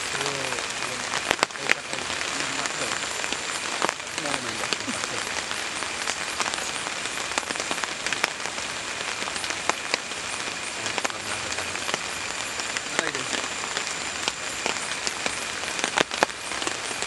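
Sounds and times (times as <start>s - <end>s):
rain on a tarp: 0.0s - 17.0s.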